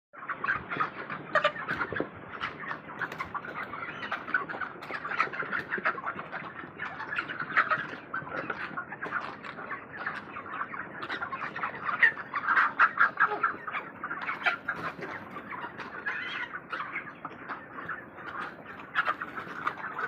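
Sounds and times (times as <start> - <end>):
flock of chickens calling: 0.2 - 20.0.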